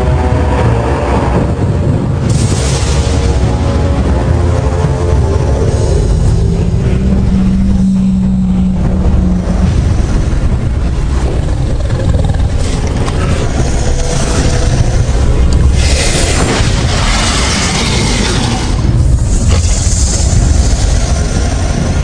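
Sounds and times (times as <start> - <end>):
deep rumble: 0.0 - 22.0
low drone: 0.0 - 22.0
sudden cinematic hit: 1.4 - 21.4.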